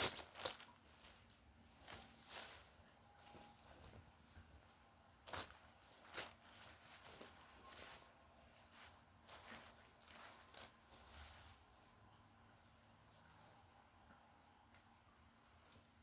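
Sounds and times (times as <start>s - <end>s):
soft rustles: 0.0s - 14.0s, 15.3s - 16.0s.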